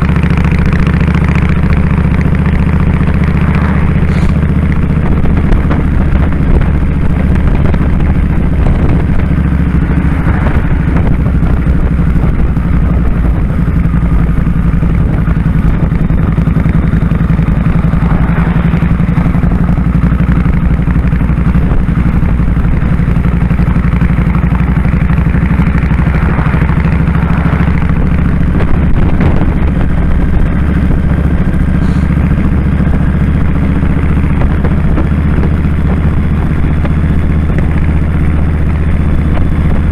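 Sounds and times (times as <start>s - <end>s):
motorcycle engine running: 0.0s - 39.9s
rushing noise: 1.5s - 35.3s.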